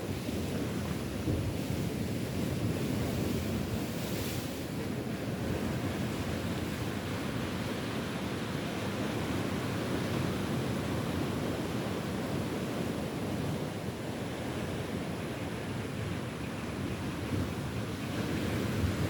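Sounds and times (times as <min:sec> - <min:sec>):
ocean surf washing onto shore: 0:00.0 - 0:19.0
wind rumbling on microphone: 0:00.0 - 0:19.0.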